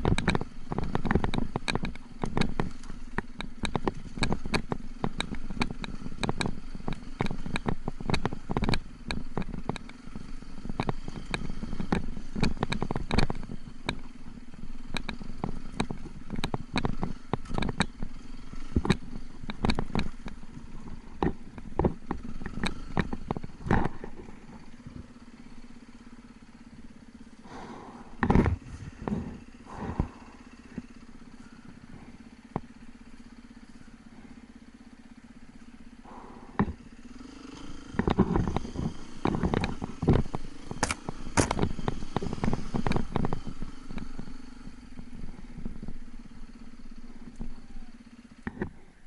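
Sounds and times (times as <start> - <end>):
sharp knocks and clatter: 0.0 - 47.6
motorcycle engine at low revs: 0.0 - 49.0.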